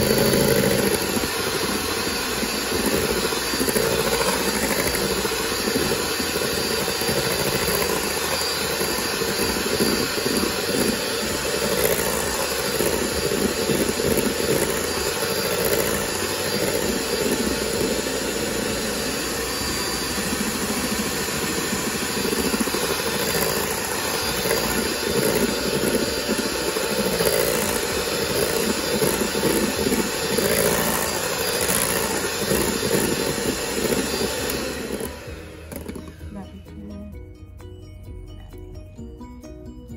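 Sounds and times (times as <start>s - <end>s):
electric hand mixer whipping cream: 0.0s - 36.8s.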